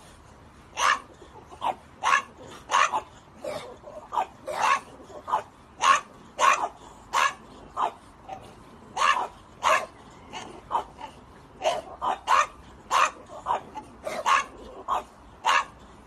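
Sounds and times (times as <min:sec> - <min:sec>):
dogs barking: 0:00.7 - 0:16.0.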